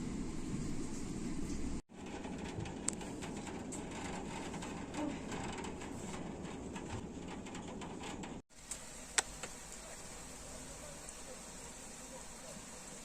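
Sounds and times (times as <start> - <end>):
rain pattering: 0.9 - 13.0.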